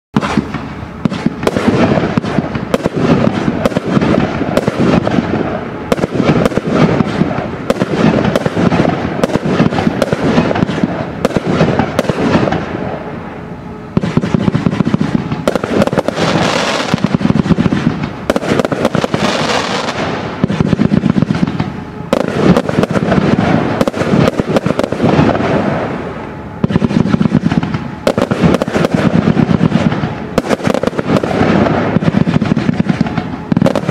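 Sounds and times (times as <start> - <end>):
firework shots and bangs: 0.2 - 13.1, 13.9 - 33.9
firework crackle: 0.2 - 33.9.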